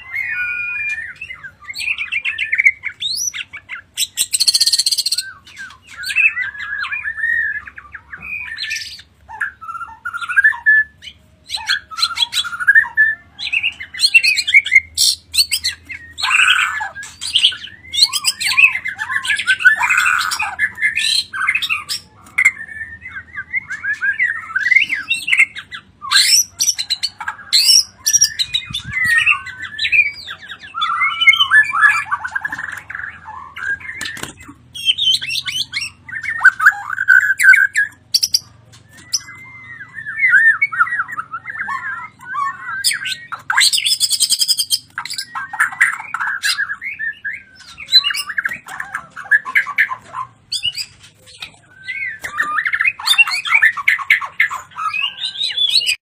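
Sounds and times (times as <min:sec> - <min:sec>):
songbird singing loudly: 0:00.0 - 0:56.0.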